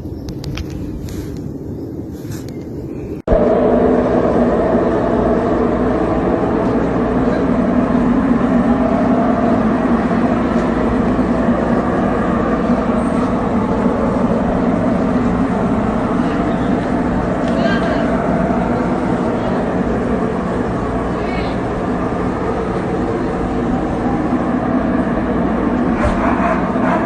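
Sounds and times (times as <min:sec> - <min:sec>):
loud low drone: 0:03.1 - 0:27.0.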